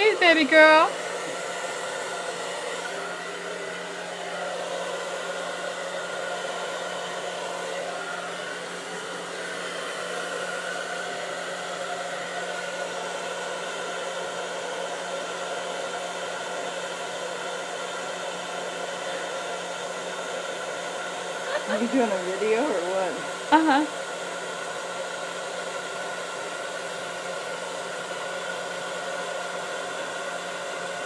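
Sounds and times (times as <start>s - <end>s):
hair dryer running: 0.0s - 31.0s.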